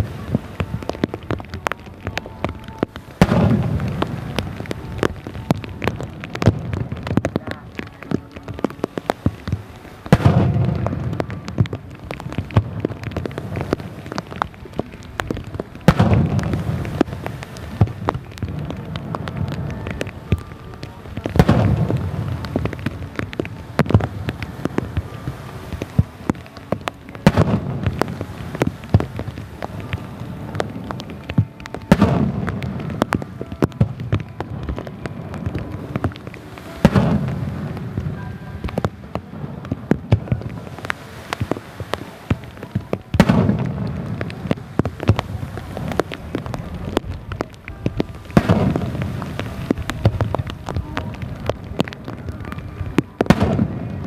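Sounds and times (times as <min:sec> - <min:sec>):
heavy rain pattering: 0:00.0 - 0:54.0
firework shells booming: 0:03.2 - 0:20.4, 0:21.0 - 0:54.0.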